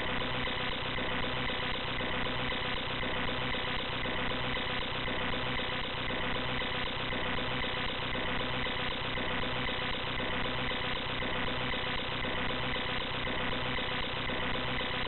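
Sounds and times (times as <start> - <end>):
harsh electronic buzzing drone: 0.0 - 15.0.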